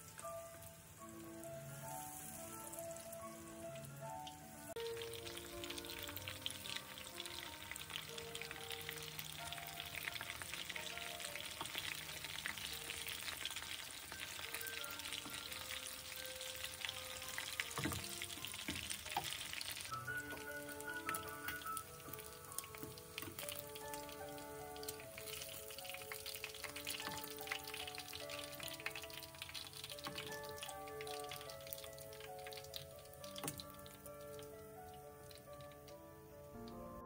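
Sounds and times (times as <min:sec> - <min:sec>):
chicken sizzling in hot oil: 0:00.0 - 0:36.4.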